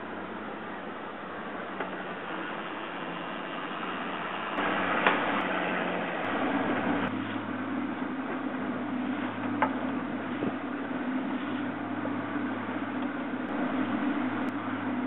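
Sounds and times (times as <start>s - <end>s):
boat engine running: 0.0s - 15.0s
wind and water hiss: 0.0s - 15.0s.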